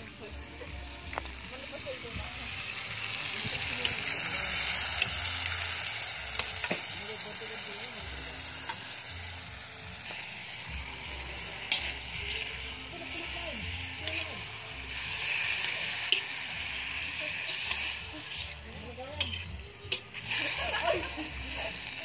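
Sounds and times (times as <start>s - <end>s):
chicken wings sizzling in a wok: 0.0s - 22.0s.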